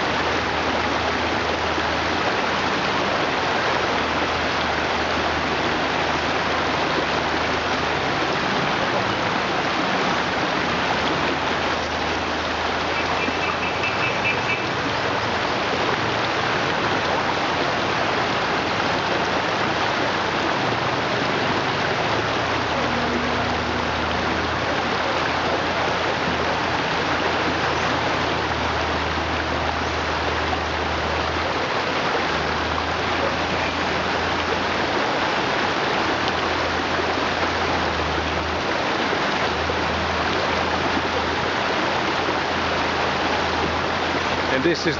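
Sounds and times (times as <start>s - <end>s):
river rushing over stones: 0.0s - 44.9s.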